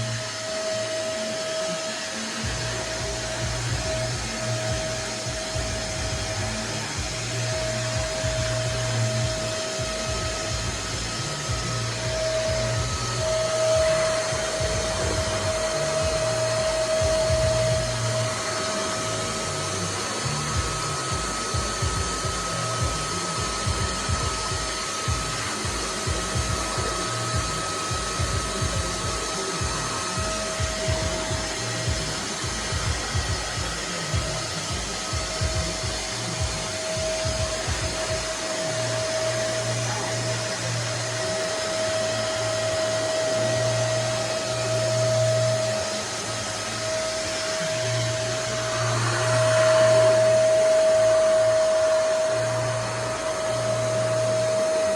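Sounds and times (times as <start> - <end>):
vacuum cleaner motor running: 0.0 - 54.9.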